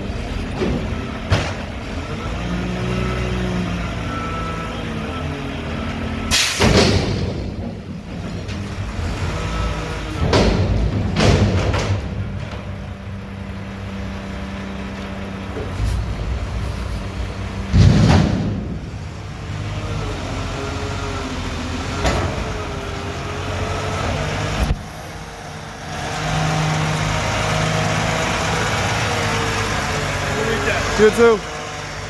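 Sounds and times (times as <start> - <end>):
garbage truck diesel engine: 0.0 - 32.0.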